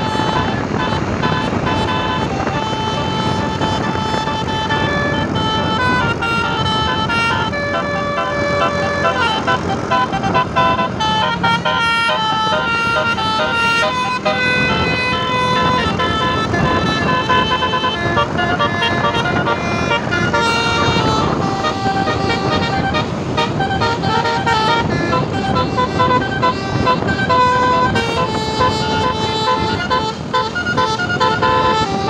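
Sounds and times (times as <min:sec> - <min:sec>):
bus horn playing a tune: 0:00.0 - 0:32.0.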